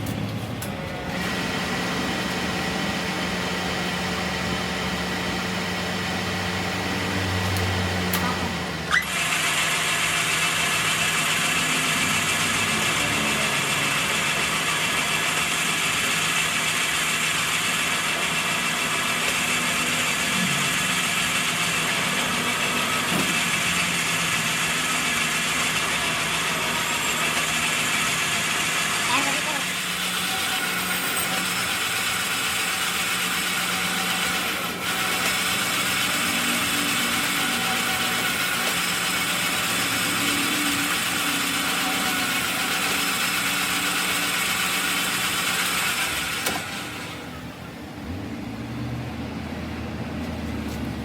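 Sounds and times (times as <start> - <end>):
machine running: 0.0 - 48.8.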